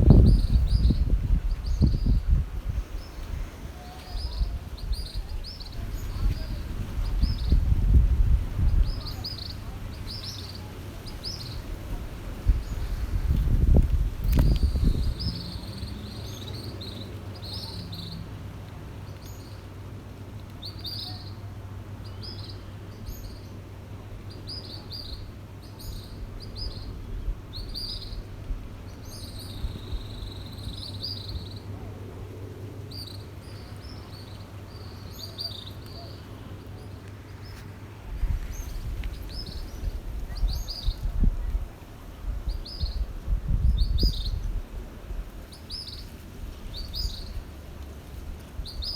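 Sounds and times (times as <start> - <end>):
small birds chirping: 0.0 - 19.8, 20.4 - 44.6, 45.3 - 48.9.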